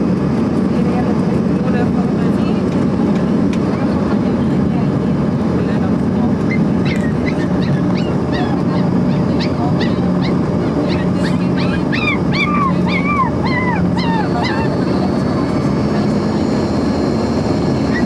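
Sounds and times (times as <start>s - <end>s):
jet engine drone in cabin: 0.0s - 18.0s
low steady hum: 0.0s - 18.0s.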